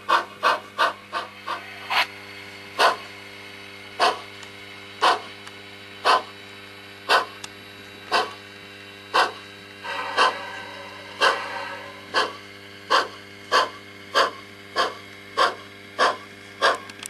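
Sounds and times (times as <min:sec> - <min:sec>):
model steam locomotive chuffs: 0:00.0 - 0:05.4, 0:06.0 - 0:17.0
steady electronic hum: 0:00.0 - 0:17.0.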